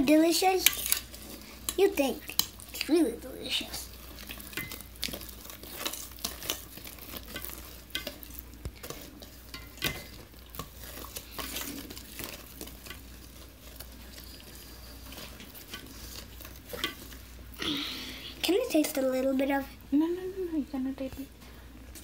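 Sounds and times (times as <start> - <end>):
batter stirred in metal bowl: 0.0 - 20.3.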